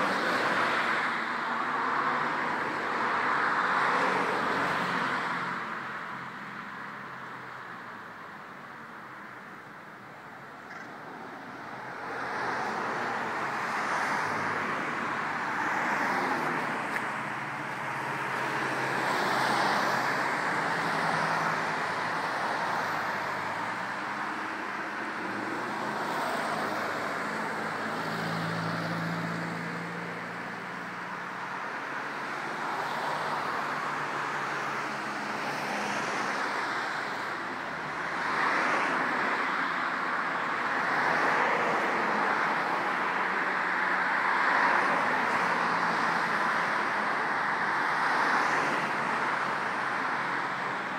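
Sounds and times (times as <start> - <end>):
road traffic roar: 0.0 - 50.9.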